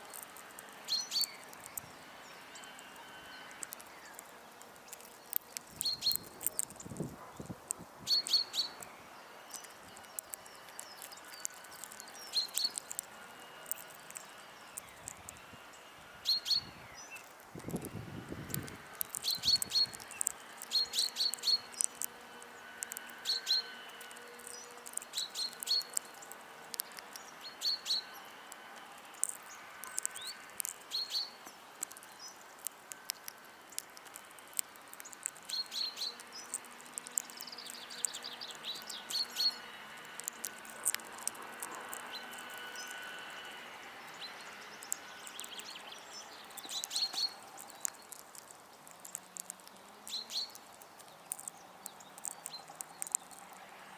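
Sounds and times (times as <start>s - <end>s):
sharp clicks: 0.0s - 15.5s, 16.3s - 53.7s
songbirds chirping: 0.0s - 53.9s.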